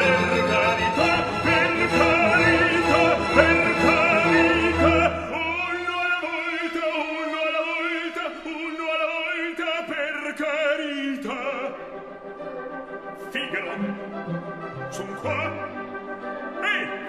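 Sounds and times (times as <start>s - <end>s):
operatic singing: 0.0s - 17.0s
orchestral accompaniment: 0.0s - 17.0s.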